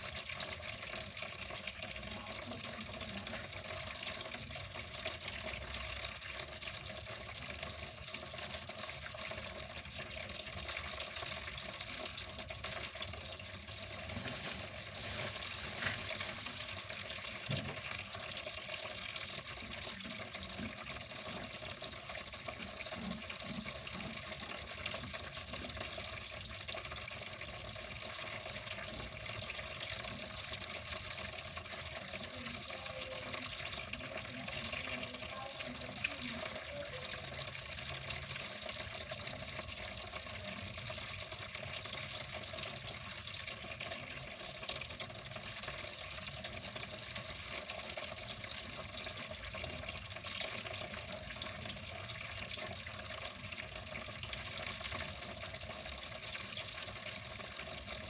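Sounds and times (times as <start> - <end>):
water flowing and splashing: 0.0 - 58.0.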